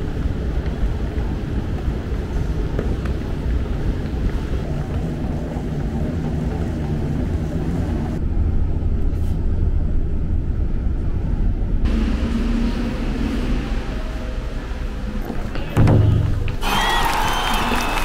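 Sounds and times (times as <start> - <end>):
moving vehicle rumble: 0.0 - 16.6.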